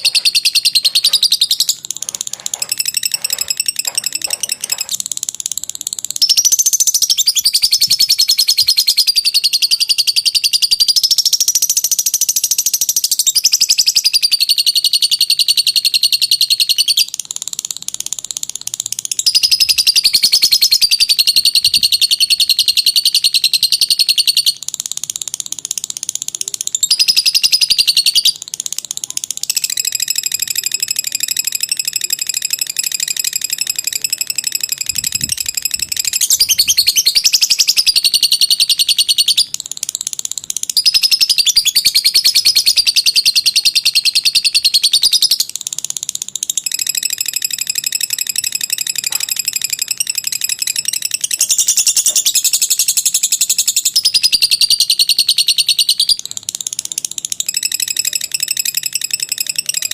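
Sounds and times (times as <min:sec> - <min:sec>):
lovebird chattering trills: 0:00.0 - 0:59.9.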